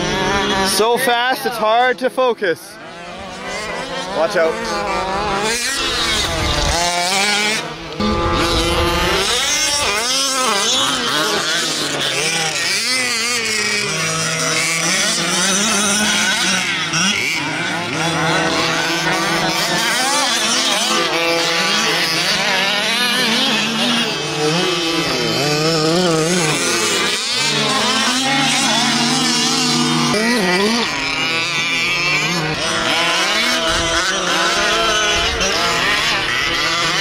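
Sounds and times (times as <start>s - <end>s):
rc buggy engines revving: 0.0s - 37.0s.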